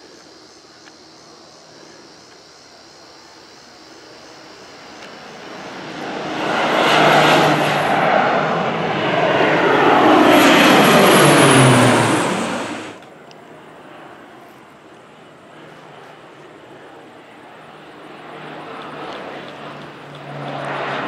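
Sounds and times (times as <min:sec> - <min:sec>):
airplane flying low overhead: 0:00.0 - 0:21.0.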